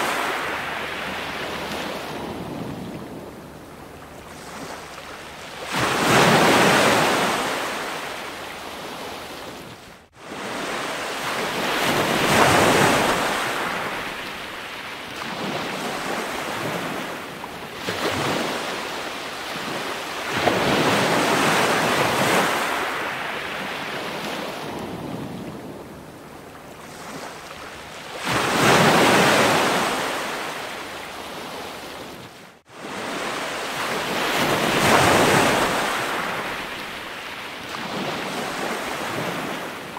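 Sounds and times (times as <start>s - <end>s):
waves washing in and receding: 0.0s - 39.9s.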